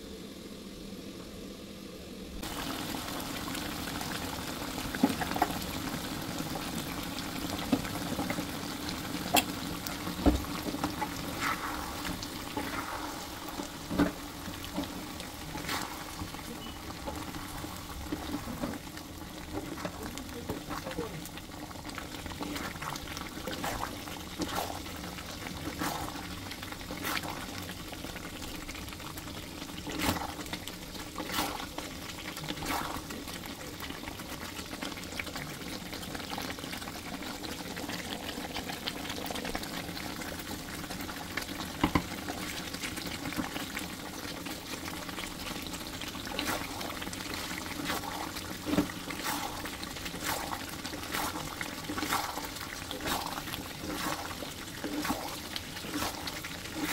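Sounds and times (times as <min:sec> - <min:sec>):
gravy bubbling in a pan: 0:00.0 - 0:56.9.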